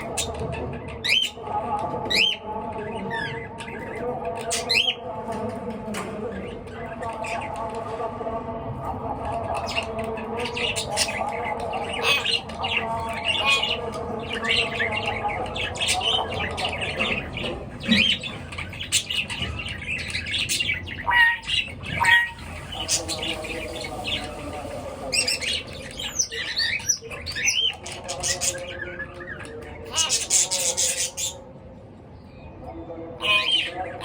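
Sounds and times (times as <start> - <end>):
pet birds chirping and squawking: 0.0 - 1.4, 2.1 - 5.0, 9.4 - 31.5, 33.2 - 34.0.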